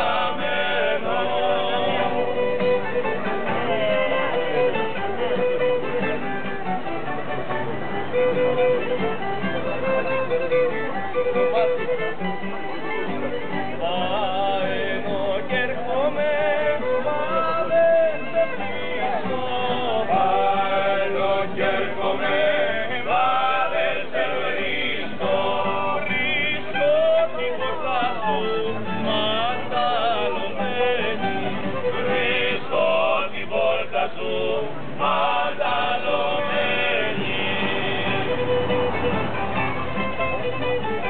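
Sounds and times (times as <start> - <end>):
instrumental accompaniment: 0.0 - 41.0.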